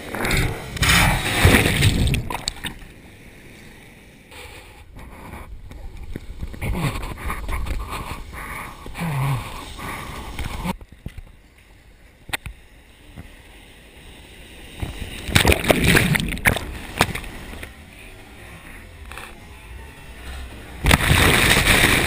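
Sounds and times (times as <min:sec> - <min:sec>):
waves breaking and splashing: 0:00.0 - 0:22.0.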